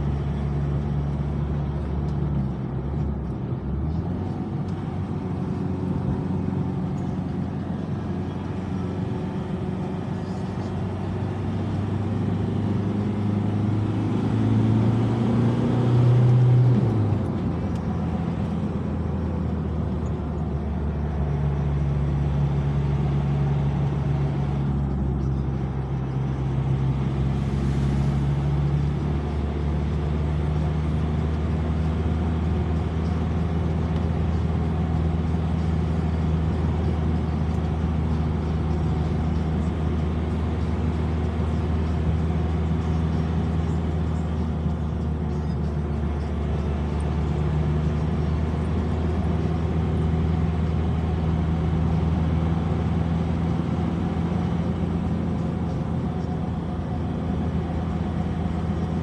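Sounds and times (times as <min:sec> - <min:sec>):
car engine droning: 0:00.0 - 0:59.0
road noise inside car: 0:00.0 - 0:59.0.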